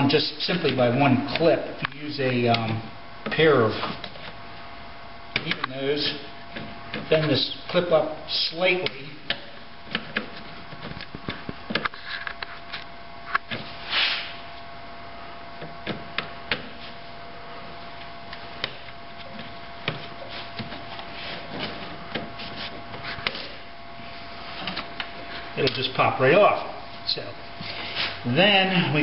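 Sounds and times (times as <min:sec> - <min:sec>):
faint hum: 0:00.0 - 0:29.0.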